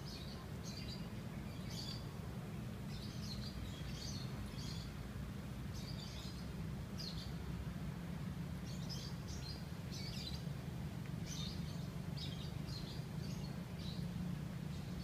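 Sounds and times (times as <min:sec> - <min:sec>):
small birds chirping: 0:00.0 - 0:07.8, 0:08.5 - 0:15.0
low background hum: 0:00.0 - 0:15.0.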